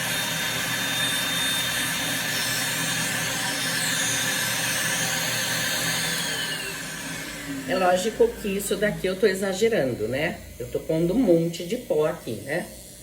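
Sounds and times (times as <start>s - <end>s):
faint high drill whine: 0.0s - 13.0s
nail drill suction fan hiss: 0.0s - 13.0s.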